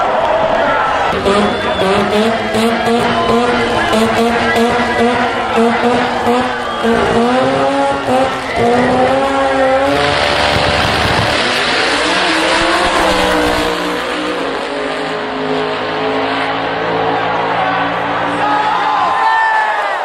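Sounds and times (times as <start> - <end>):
loud rushing noise: 0.0 - 18.5
car engine revving: 0.8 - 18.5.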